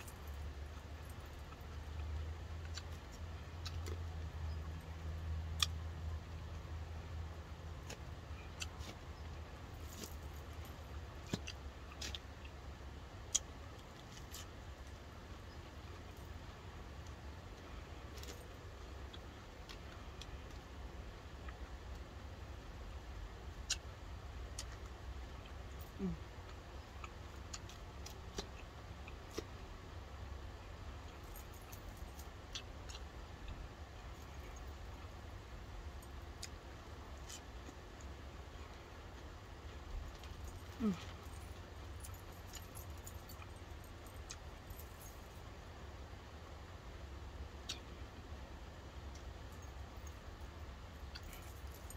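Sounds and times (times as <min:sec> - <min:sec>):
low steady hum: 0:00.0 - 0:51.9
soft chewing: 0:00.0 - 0:51.9.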